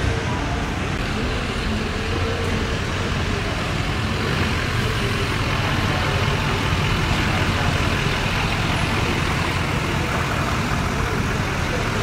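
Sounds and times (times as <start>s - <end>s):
truck engine rolling past: 0.0s - 12.0s.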